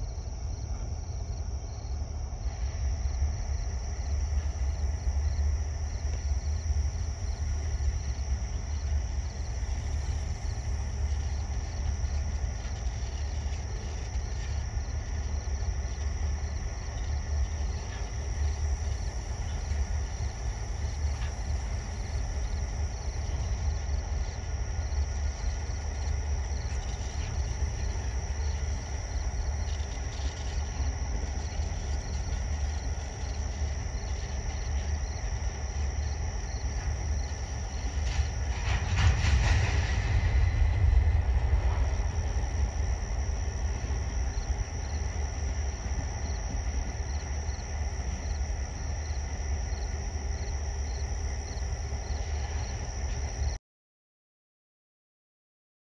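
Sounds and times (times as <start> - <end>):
freight train rumbling on rails: 0.0 - 53.6.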